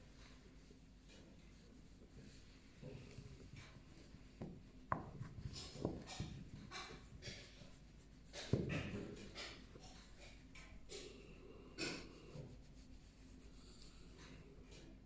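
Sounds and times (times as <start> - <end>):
fingers scratching fur: 1.1 - 10.8, 11.8 - 14.3.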